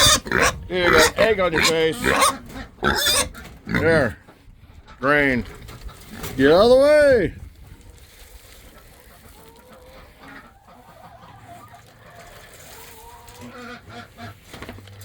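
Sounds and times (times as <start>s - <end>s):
hens clucking softly: 0.0s - 6.3s, 7.6s - 15.0s.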